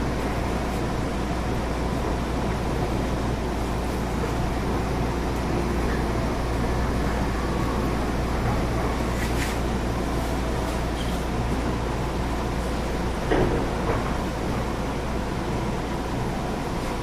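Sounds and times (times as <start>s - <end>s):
train interior rumble and hum: 0.0s - 17.0s.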